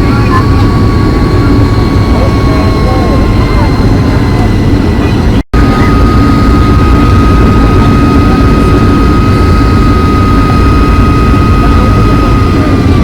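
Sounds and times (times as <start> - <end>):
jet engine cabin rush: 0.0 - 13.0
thin steady whine: 0.0 - 13.0.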